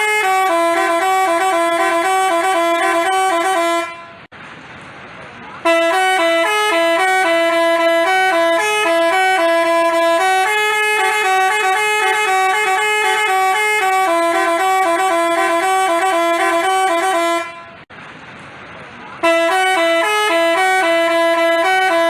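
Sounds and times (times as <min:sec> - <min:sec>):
multi-tone horn playing melody: 0:00.0 - 0:04.3, 0:05.6 - 0:17.8, 0:19.2 - 0:22.0.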